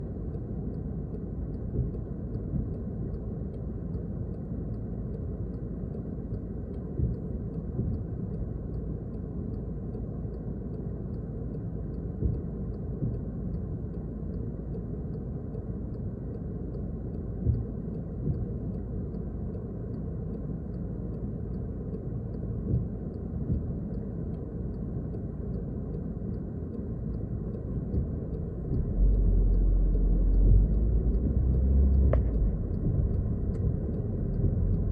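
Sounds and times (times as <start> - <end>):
car tyres and engine rumble: 0.0 - 34.9
faint ticking: 0.0 - 34.9.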